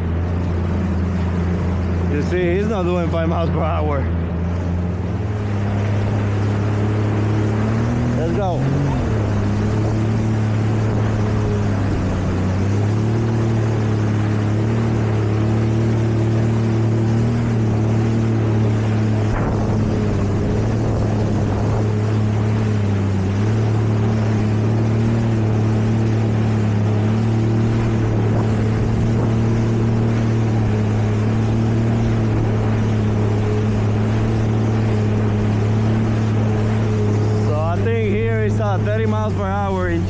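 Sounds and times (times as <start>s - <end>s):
jet ski engine humming: 0.0s - 40.0s.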